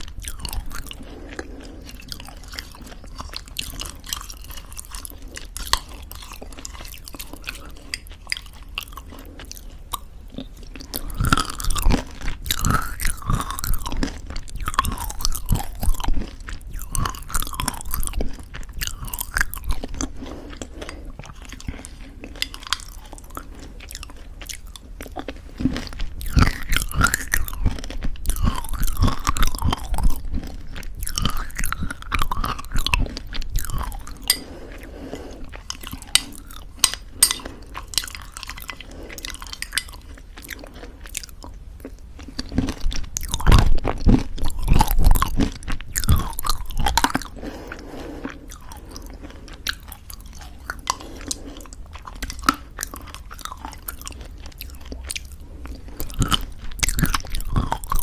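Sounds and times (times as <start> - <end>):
chewing crunchy granola: 0.0 - 58.0
wet mouth sounds: 0.0 - 58.0.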